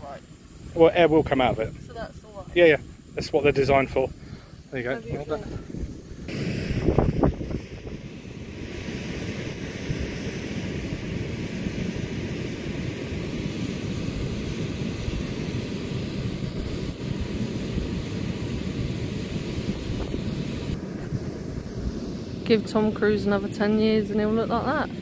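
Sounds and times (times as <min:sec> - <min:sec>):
inflation blower rushing drone: 0:00.0 - 0:25.0.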